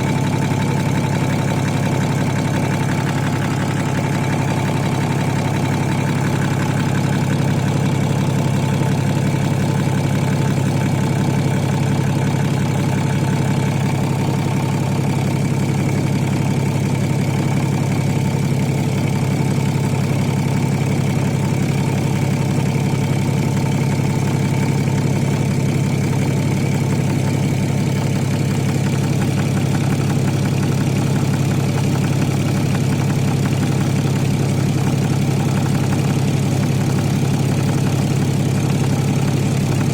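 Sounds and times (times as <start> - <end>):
diesel engine idling: 0.0 - 39.9
repetitive engine knock: 0.0 - 39.9.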